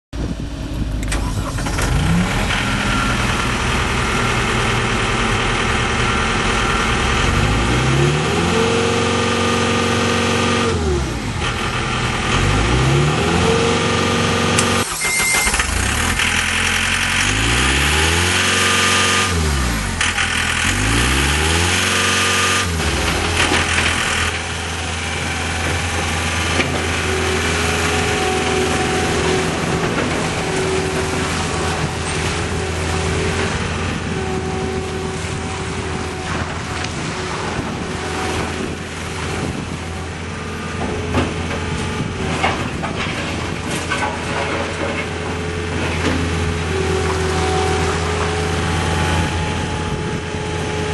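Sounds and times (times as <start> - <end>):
diesel engine revving: 0.2 - 50.9.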